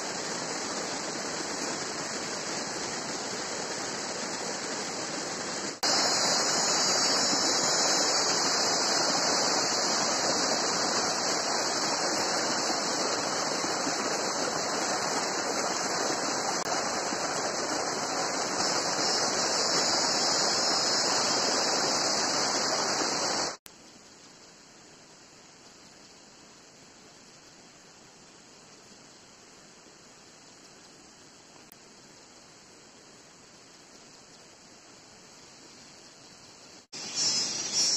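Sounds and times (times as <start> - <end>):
stream running over rocks: 0.0 - 37.4
faint hiss: 0.0 - 37.9.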